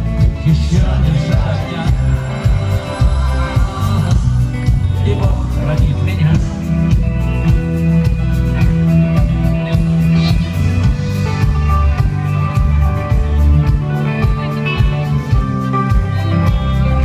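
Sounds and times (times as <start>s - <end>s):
live rock band: 0.0s - 17.0s.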